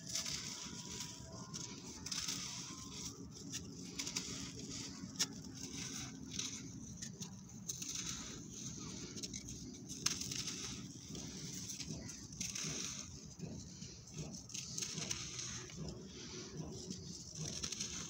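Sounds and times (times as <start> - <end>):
dirt clods crunching in hand: 0.0 - 18.0.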